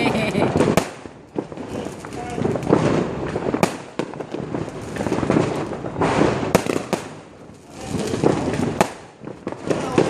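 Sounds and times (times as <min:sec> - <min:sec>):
fireworks bangs: 0:00.0 - 0:10.0
fireworks crackling and popping: 0:00.0 - 0:10.0.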